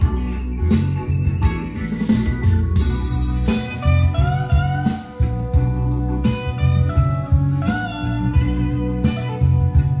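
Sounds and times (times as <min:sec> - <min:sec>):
slide guitar music with bass and drums: 0:00.0 - 0:10.0.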